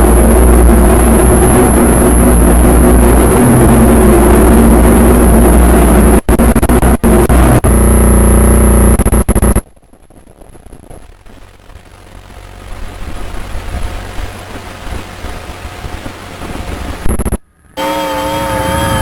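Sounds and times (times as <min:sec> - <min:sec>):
loud distorted static noise: 0:00.0 - 0:19.0
low hum: 0:00.0 - 0:19.0
steady high whine: 0:00.0 - 0:19.0.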